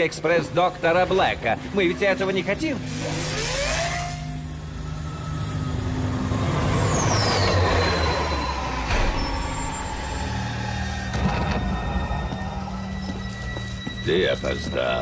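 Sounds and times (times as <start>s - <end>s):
falling whine: 1.6s - 15.0s.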